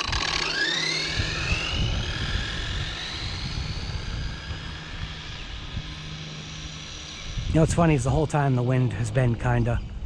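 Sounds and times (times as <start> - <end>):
rc truck motor whining: 0.0 - 9.3.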